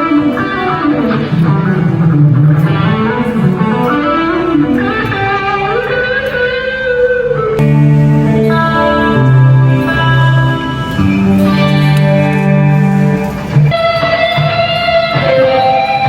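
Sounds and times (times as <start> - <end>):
bass notes: 0.0 - 16.0
electric guitar chords: 0.0 - 16.0.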